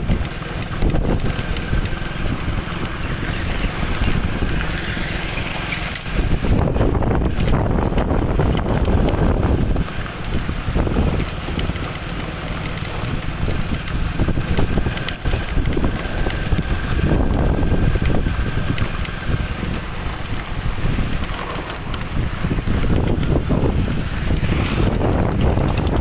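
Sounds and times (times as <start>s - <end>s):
motorcycle engines passing: 0.0s - 26.0s
wind buffeting microphone: 0.0s - 26.0s.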